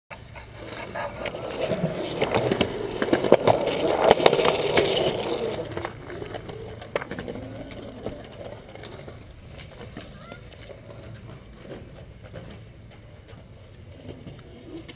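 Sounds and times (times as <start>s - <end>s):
skateboard clacks: 0.1s - 14.9s
skateboard wheels rolling on concrete: 0.1s - 14.9s.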